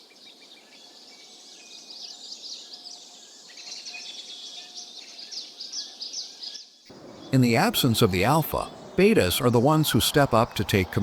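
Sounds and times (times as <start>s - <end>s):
faint outdoor hiss: 0.0s - 11.0s
small birds chirping trills: 0.0s - 11.0s.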